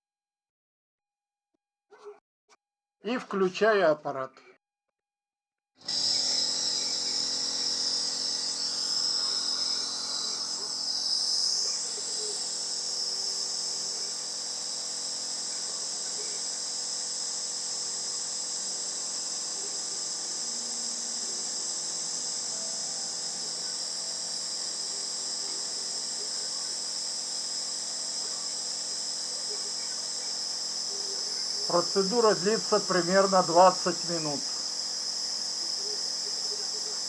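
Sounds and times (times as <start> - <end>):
nebulizer motor hum: 5.8 - 37.0.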